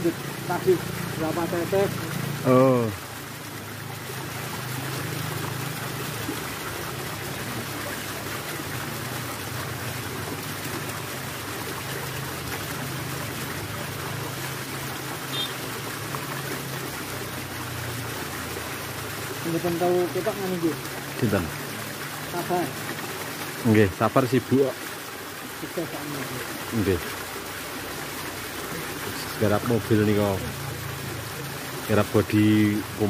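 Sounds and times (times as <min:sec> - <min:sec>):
running water trickling: 0:00.0 - 0:33.0.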